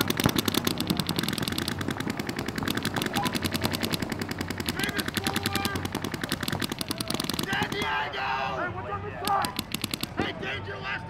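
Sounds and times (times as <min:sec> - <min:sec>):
paintball markers firing: 0:00.0 - 0:08.1, 0:09.2 - 0:10.4.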